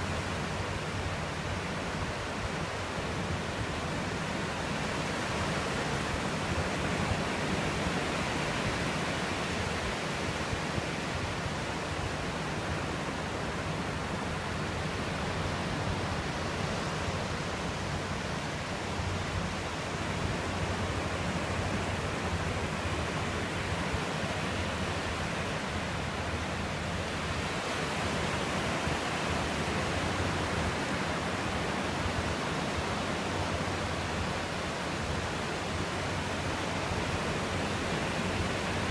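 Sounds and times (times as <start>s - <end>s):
ocean surf rushing on beach: 0.0s - 38.9s.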